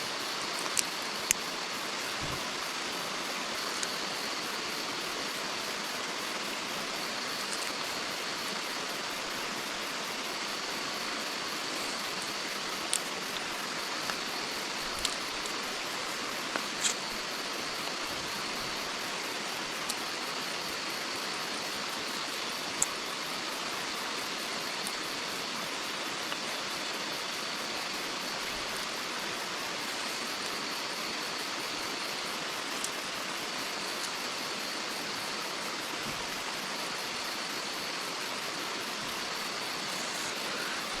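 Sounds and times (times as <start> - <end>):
hiss of running water: 0.0 - 41.0.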